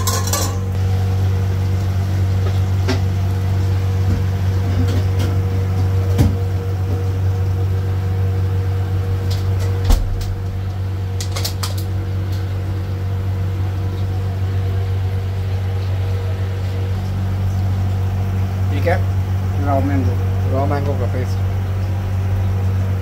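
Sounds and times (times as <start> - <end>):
kitchen machinery humming: 0.0 - 23.0.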